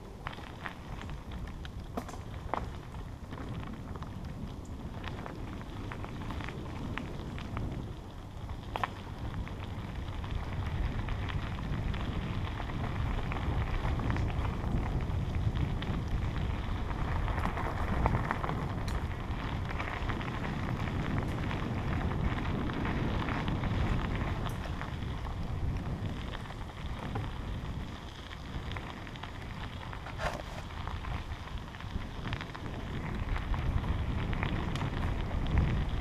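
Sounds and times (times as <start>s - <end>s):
bicycle tyres crunching on gravel: 0.0s - 36.0s
wind rushing on microphone: 0.0s - 36.0s.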